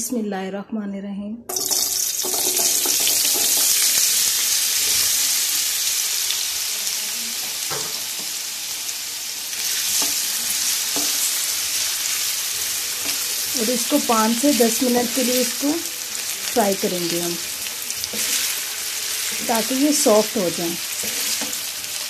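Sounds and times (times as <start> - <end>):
potatoes sizzling in hot oil: 1.5 - 22.0.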